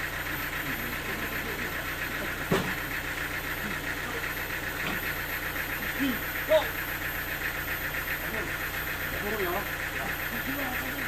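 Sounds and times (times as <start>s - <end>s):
sawmill machinery pulsing: 0.0s - 11.0s.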